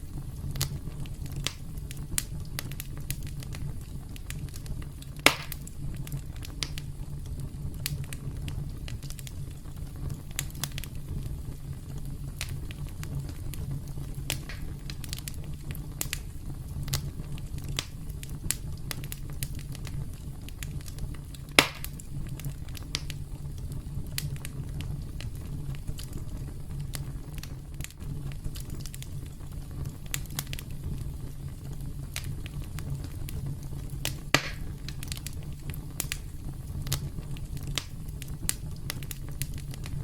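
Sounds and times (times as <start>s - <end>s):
campfire crackling: 0.0s - 40.0s
fire popping: 0.0s - 40.0s.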